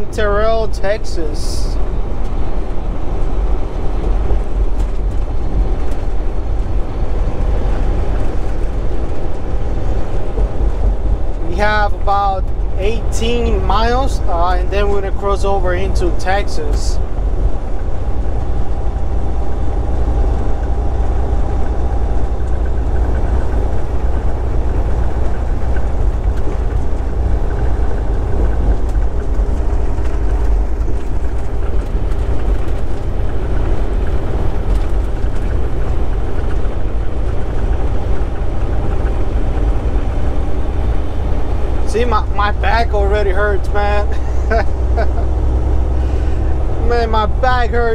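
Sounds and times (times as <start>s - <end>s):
truck cab road and engine rumble: 0.0s - 47.9s.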